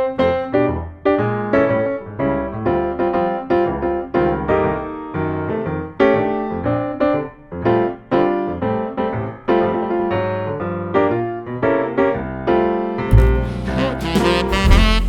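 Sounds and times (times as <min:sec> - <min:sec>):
light piano melody: 0:00.0 - 0:15.0.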